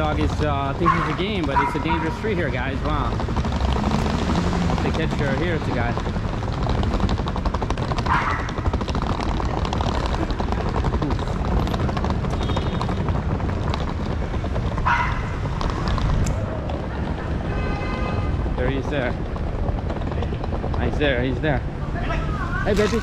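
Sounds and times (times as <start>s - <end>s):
city street rumble: 0.0s - 23.0s.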